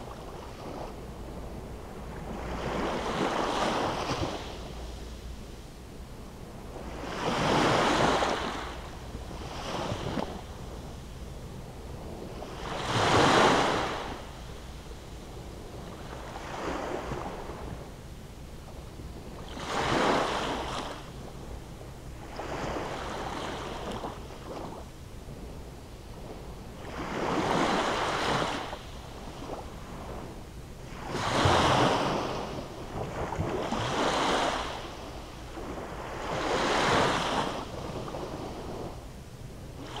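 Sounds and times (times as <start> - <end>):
small waves washing on beach: 0.0 - 5.6, 6.5 - 18.0, 18.6 - 40.0.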